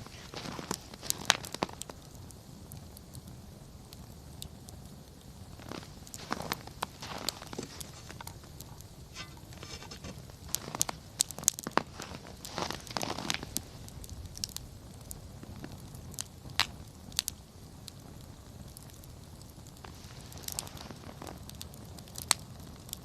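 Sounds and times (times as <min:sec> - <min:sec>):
campfire crackling: 0:00.0 - 0:23.0
fire pops and snaps: 0:00.0 - 0:23.0.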